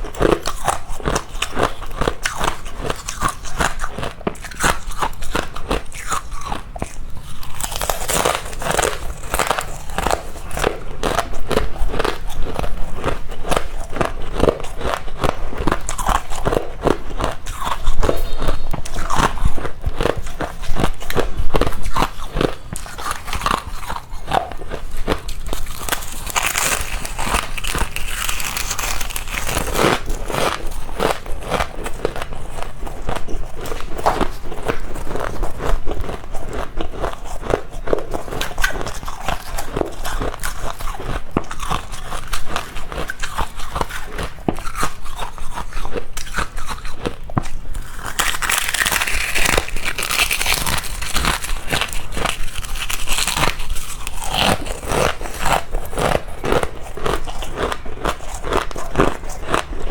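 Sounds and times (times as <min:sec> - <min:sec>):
crunching frost: 0:02.2 - 0:59.9.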